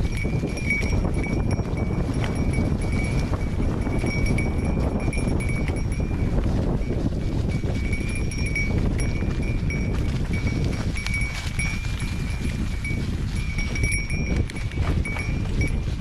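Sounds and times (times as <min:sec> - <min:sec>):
bike rattling: 0:00.0 - 0:16.0
high ringing tone: 0:00.0 - 0:16.0
wind and tyres rumbling: 0:00.0 - 0:16.0.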